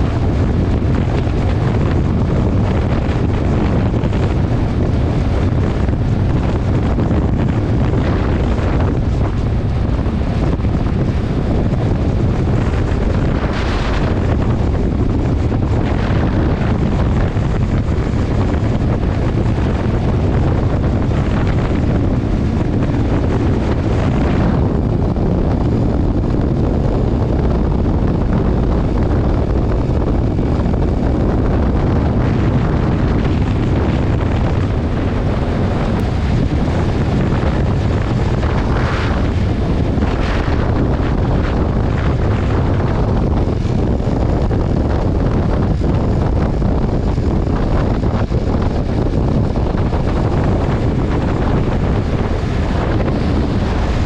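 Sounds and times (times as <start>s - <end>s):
motorcycle engine drone: 0.0s - 54.0s
wind noise on microphone: 0.0s - 54.0s.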